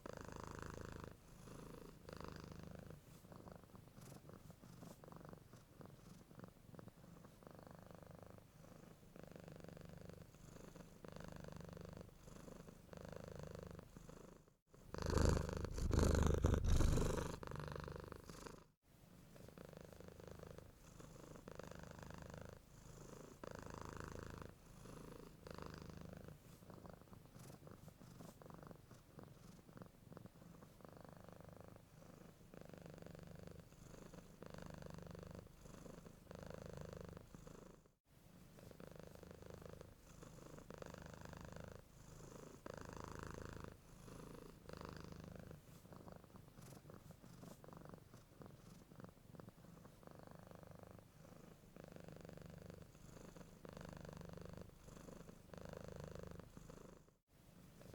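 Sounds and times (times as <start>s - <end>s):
cat purring: 0.0s - 37.9s, 38.6s - 57.9s.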